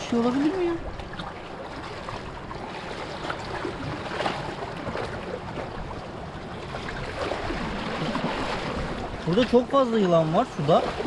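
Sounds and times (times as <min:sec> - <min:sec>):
water lapping against rocks: 0:00.0 - 0:11.0.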